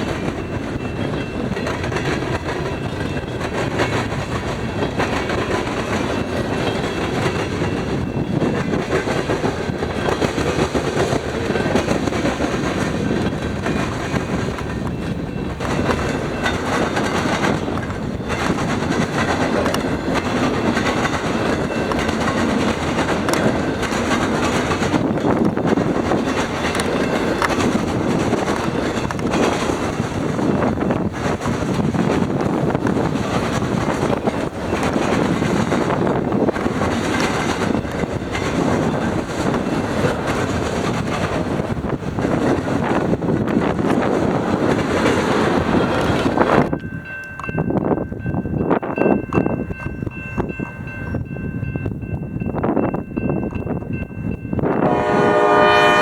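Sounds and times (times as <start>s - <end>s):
clickety-clack over rail joints: 0.0s - 56.0s
train wheels rumbling on track: 0.0s - 56.0s.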